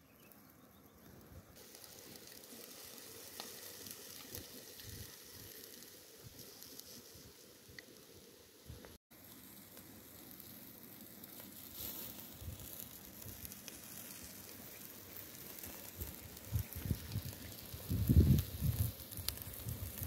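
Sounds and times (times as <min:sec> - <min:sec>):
meat sizzling over charcoal: 0:00.1 - 0:20.0.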